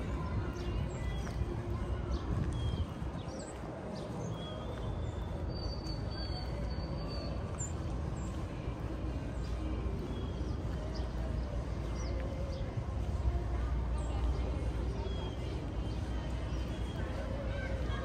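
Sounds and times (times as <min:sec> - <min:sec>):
low hum of city traffic: 0:00.0 - 0:18.0.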